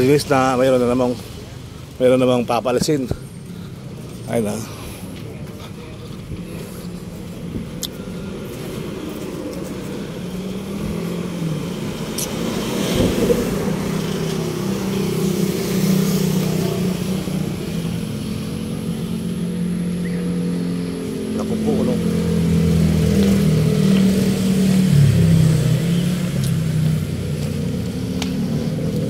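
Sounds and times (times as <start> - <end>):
road traffic noise: 0.0 - 29.0
vehicle engine running: 2.7 - 29.0.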